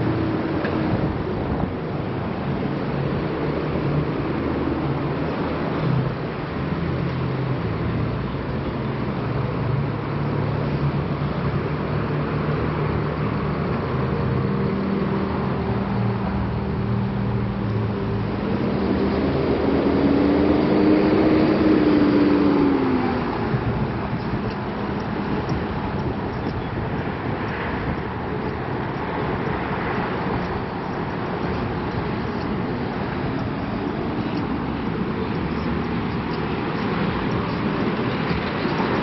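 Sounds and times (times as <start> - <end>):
street traffic rumble: 0.0 - 39.0
vehicle passing close by: 0.0 - 39.0.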